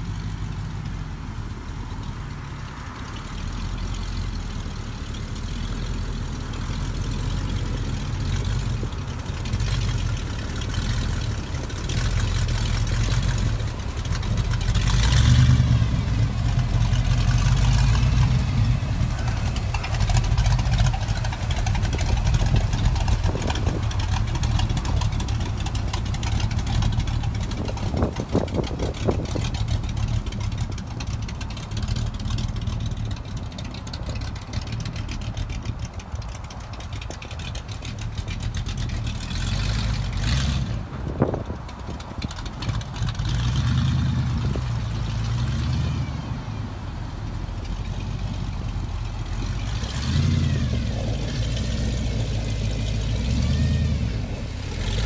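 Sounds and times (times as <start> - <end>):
pickup truck engine running: 0.0 - 55.0
tires on gravel: 0.0 - 55.0.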